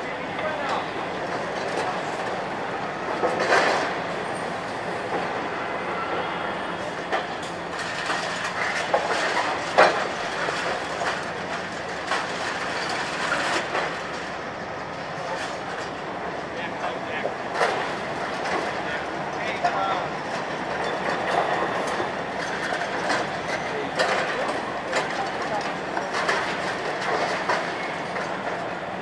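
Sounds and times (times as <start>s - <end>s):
demolition machine noise: 0.0s - 29.0s.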